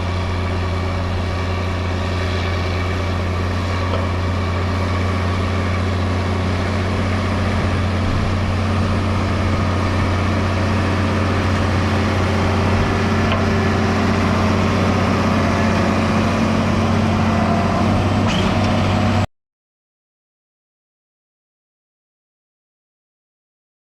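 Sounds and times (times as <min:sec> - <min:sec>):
tractor engine running: 0:00.0 - 0:19.3.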